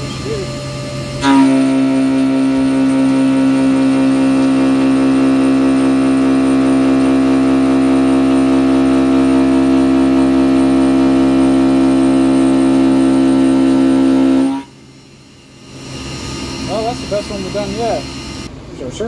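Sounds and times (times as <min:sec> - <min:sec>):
milling machine cutting whine: 0:00.0 - 0:18.6.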